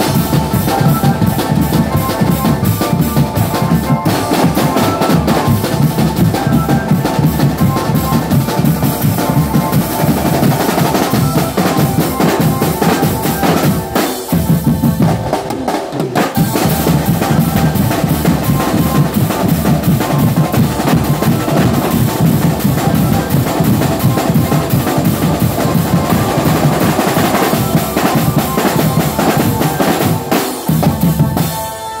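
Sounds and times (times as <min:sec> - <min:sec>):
drum band drumming: 0:00.0 - 0:31.7.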